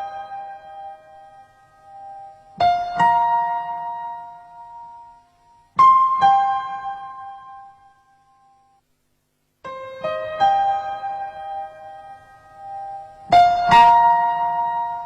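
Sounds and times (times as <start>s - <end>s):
slow piano notes: 0.0s - 8.8s, 9.6s - 15.0s.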